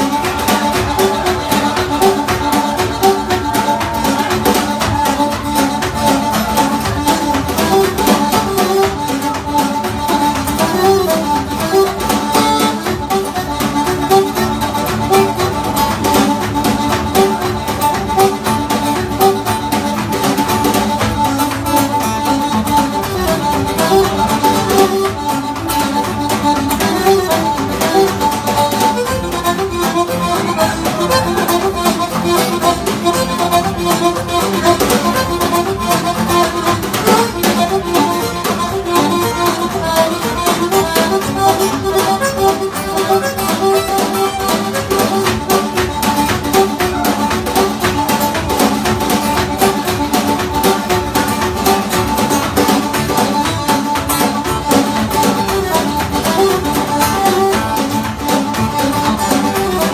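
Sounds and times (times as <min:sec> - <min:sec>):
acoustic guitar strumming: 0:00.0 - 0:59.9
button accordion tune: 0:00.0 - 0:59.9
snare drum: 0:00.0 - 0:59.9.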